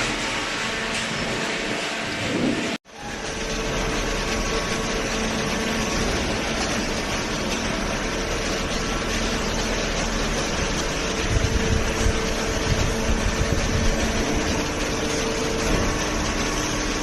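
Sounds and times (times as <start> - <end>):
baler motor and pump humming: 0.0 - 17.0.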